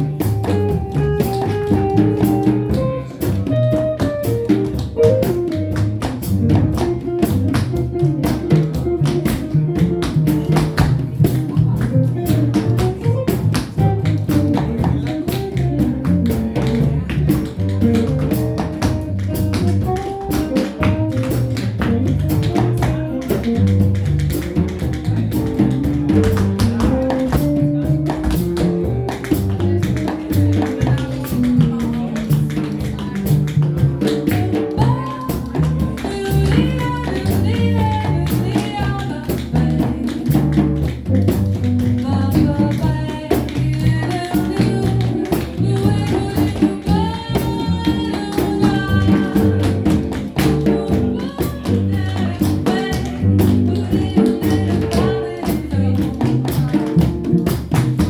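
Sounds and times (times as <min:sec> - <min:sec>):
jazz combo playing: 0:00.0 - 0:58.0
tap shoes clicking: 0:00.3 - 0:50.7.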